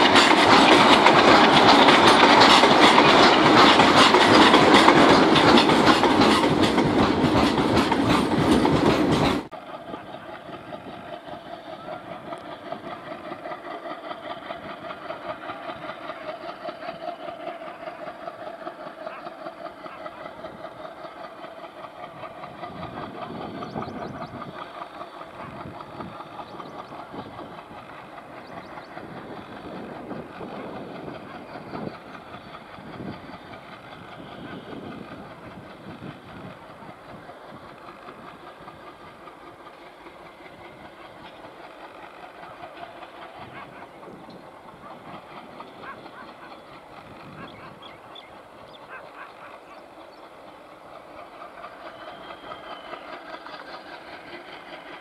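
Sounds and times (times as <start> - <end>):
diesel locomotive chugging: 0.0 - 55.0.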